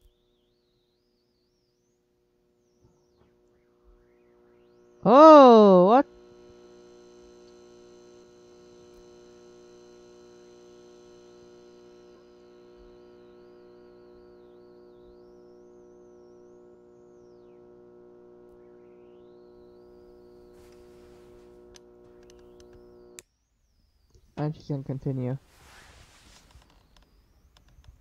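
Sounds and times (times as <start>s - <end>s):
faint electrical hum: 5.1s - 28.0s.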